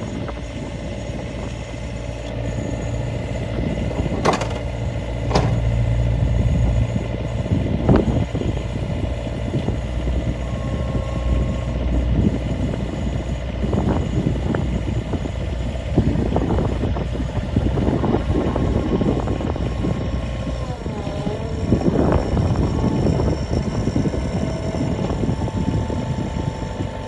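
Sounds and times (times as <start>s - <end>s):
engine whine: 0.0s - 27.0s
mower diesel engine running: 0.0s - 27.0s.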